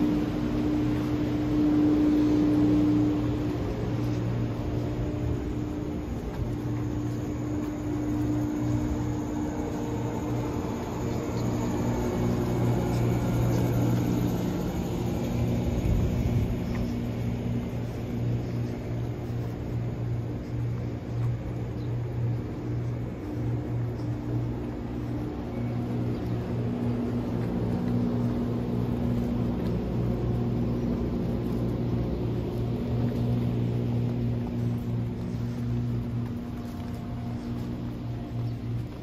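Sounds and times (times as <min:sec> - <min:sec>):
train equipment humming: 0:00.0 - 0:39.0.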